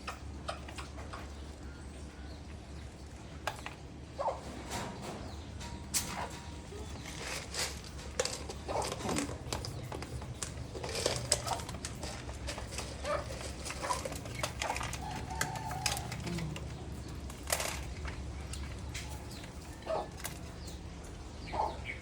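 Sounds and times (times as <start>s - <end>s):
pigeon calls: 3.3s - 22.0s.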